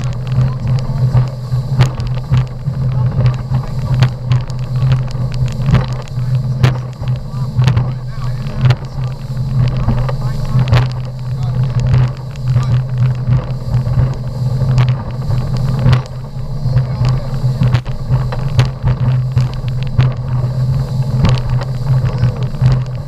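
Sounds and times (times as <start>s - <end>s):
motorboat engine droning: 0.0s - 23.0s.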